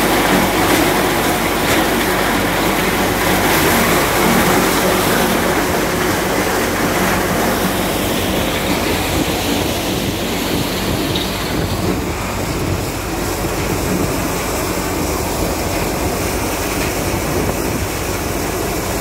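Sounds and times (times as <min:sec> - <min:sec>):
thresher rumbling and clattering: 0:00.0 - 0:19.0.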